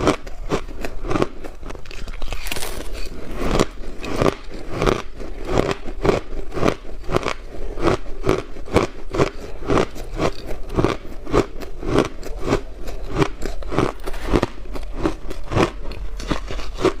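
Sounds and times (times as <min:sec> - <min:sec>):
ice being crunched by chewing: 0:00.0 - 0:17.0.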